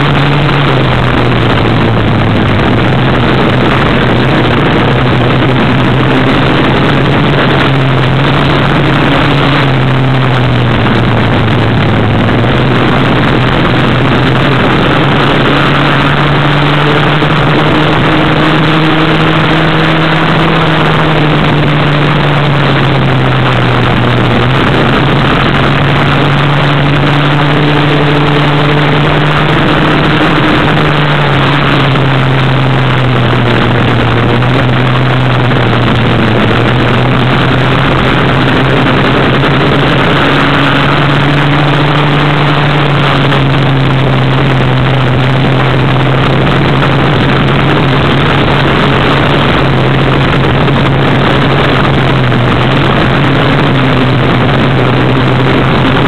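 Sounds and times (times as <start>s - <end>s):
buggy engine running: 0.0s - 56.0s
wind rushing: 0.0s - 56.0s.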